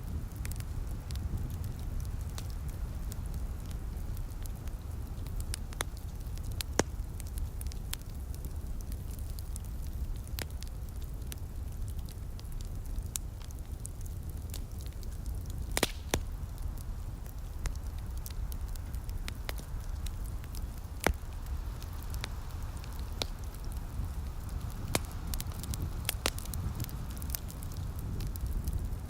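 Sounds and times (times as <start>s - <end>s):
fire popping: 0.0s - 29.0s
low fire rumble: 0.0s - 29.0s
wood fire crackling: 0.0s - 29.0s.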